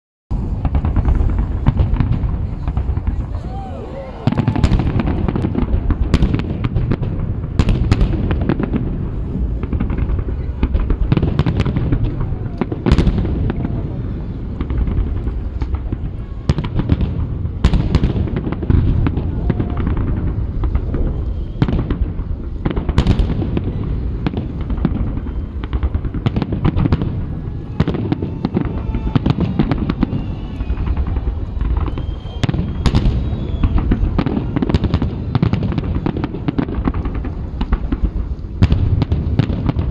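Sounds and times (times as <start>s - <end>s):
fireworks bangs: 0.3s - 39.9s
rumble of rolling booms: 0.3s - 39.9s.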